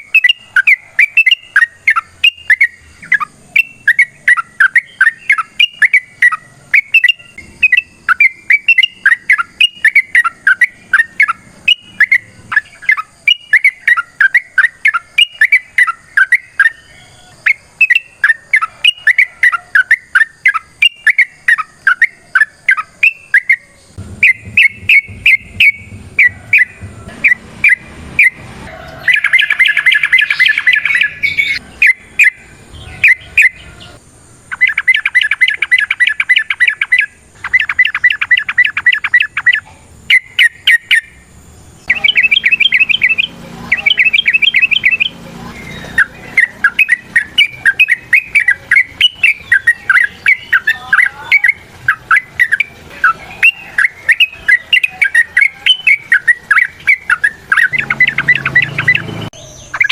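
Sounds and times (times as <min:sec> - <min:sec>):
bulbul chirping and trilling: 0:00.0 - 0:59.9.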